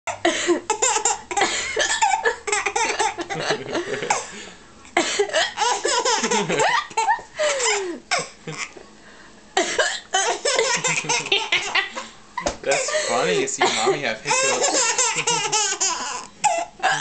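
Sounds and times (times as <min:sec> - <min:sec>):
baby laughing: 0:00.6 - 0:04.3, 0:05.3 - 0:08.8, 0:10.2 - 0:17.0.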